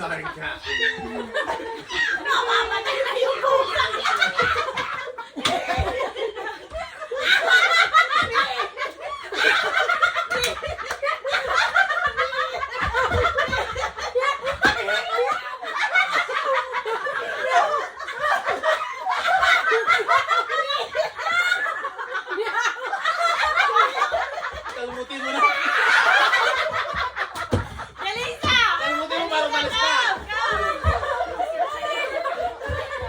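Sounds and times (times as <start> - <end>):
people laughing: 0.0 - 33.0.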